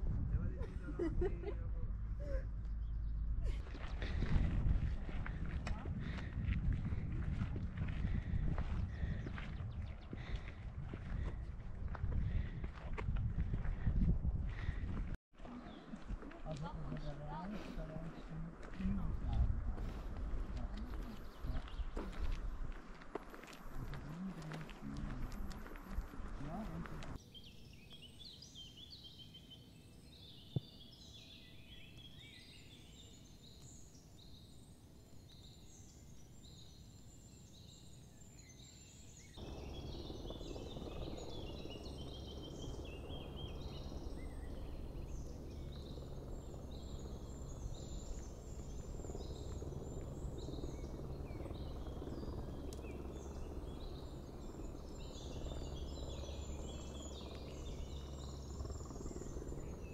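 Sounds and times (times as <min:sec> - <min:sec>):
songbirds chirping and trilling: 0:00.4 - 0:22.8, 0:23.4 - 0:59.9.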